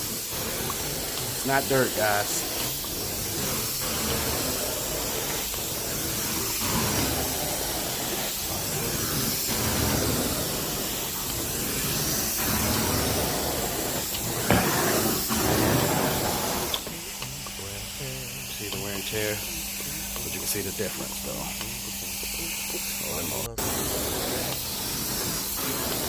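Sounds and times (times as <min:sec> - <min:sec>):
carpet cleaner suction hiss: 0:00.0 - 0:26.0.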